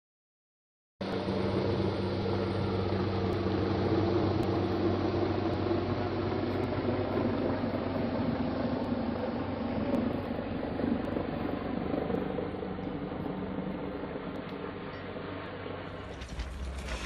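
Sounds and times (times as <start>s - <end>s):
helicopter hovering: 1.0s - 17.0s.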